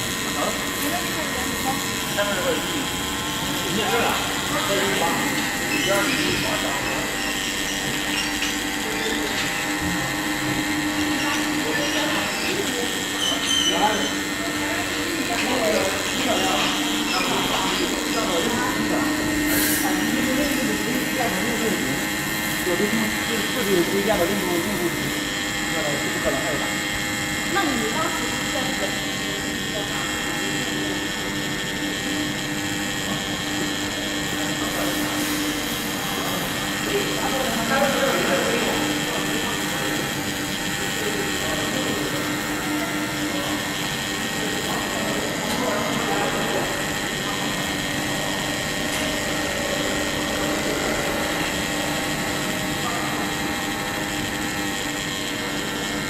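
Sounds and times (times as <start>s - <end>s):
industrial machinery drone: 0.0s - 56.0s
steady humming tones: 0.0s - 56.0s.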